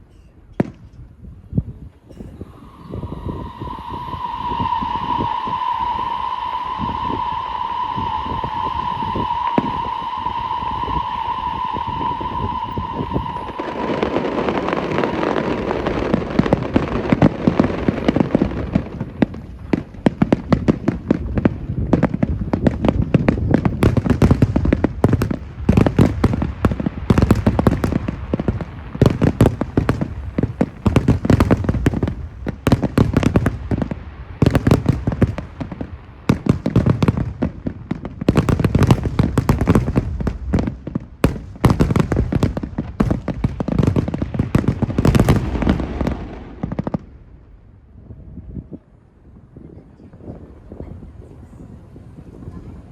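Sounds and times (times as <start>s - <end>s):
fireworks bangs and crackling: 0.5s - 1.0s, 2.1s - 47.6s.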